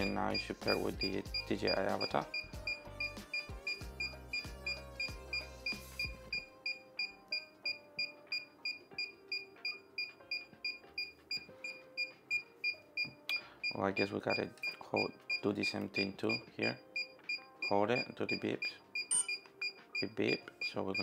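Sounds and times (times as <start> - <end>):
background music: 0.0 - 21.0
remote controller beeping: 0.0 - 21.0.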